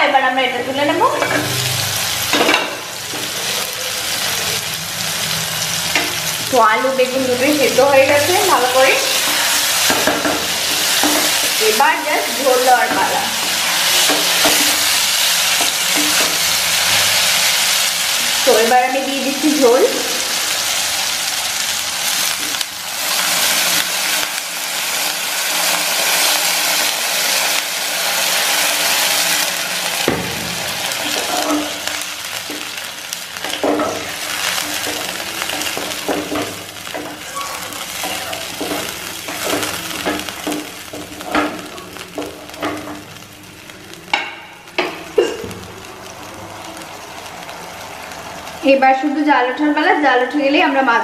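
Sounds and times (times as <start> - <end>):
water sizzling in hot pan: 0.0 - 51.0.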